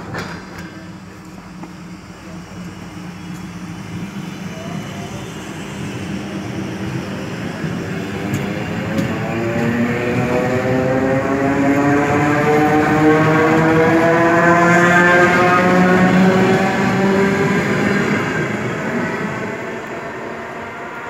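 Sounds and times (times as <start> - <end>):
train drive whine: 0.0 - 21.0
train rumbling: 0.0 - 21.0.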